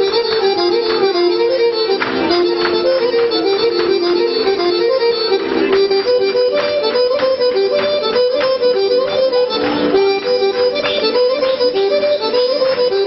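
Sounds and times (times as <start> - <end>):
fast accordion folk dance music: 0.0 - 13.0.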